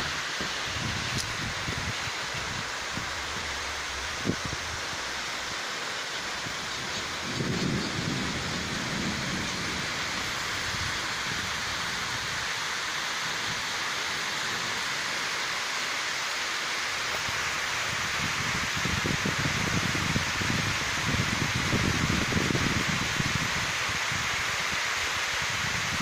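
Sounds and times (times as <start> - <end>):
heavy rain on roofs: 0.0 - 26.0.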